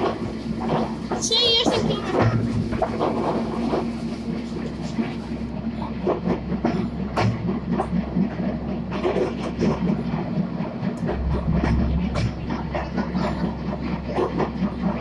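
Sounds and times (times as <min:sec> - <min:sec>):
train carriage rumble: 0:00.0 - 0:15.0
wheels clacking on rails: 0:00.0 - 0:15.0.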